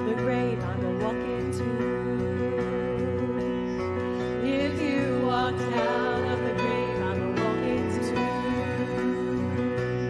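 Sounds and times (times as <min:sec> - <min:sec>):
worship band playing: 0:00.0 - 0:10.0.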